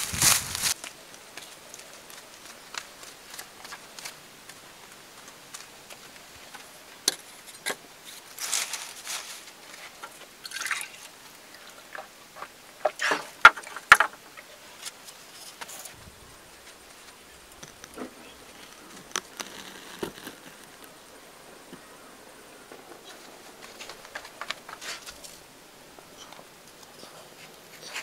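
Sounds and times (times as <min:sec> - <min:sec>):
leafy branches rustling: 0:00.0 - 0:28.0.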